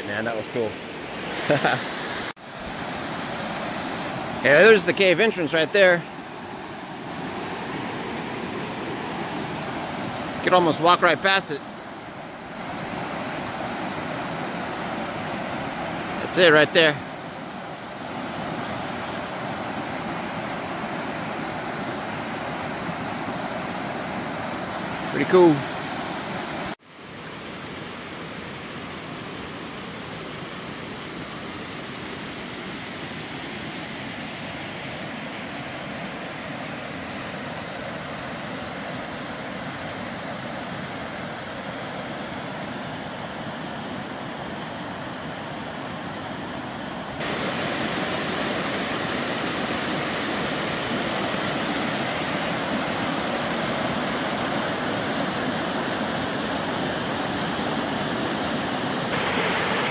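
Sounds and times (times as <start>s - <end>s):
waterfall rushing: 0.0s - 26.8s, 34.5s - 59.9s.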